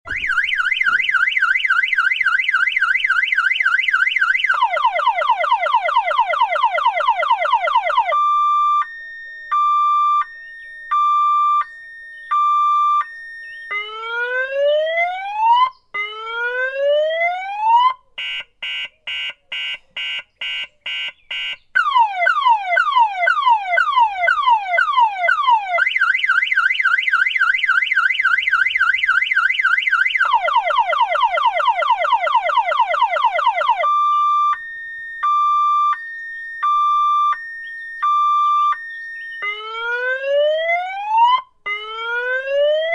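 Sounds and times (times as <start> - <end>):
car alarm siren: 0.0 - 42.9.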